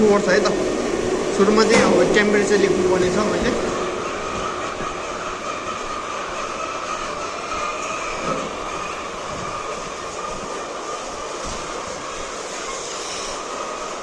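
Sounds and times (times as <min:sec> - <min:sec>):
machinery whirring and humming: 0:00.0 - 0:14.0.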